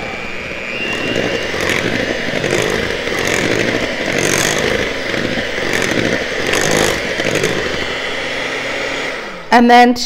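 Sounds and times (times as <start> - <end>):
electric mixer running: 0.0 - 9.5.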